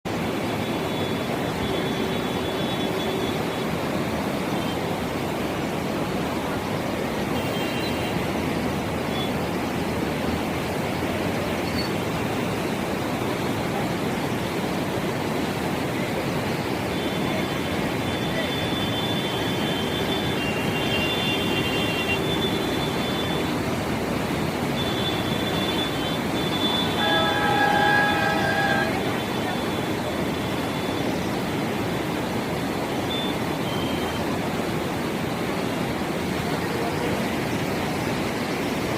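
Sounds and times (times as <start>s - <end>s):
river water rushing: 0.1s - 38.9s.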